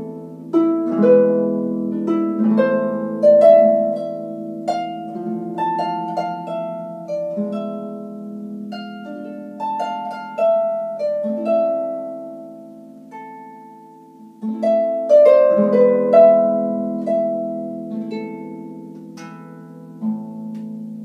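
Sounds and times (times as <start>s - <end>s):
harp playing: 0.0s - 21.0s.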